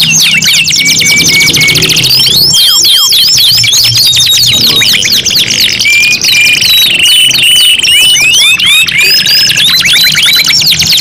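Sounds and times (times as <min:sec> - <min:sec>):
canaries singing: 0:00.0 - 0:11.0.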